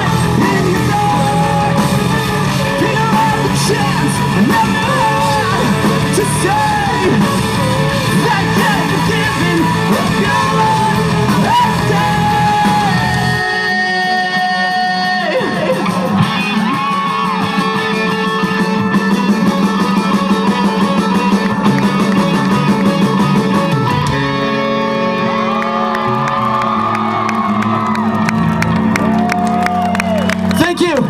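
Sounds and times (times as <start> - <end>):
electric guitars bending notes: 0.0 - 31.0
live rock band playing: 0.0 - 31.0.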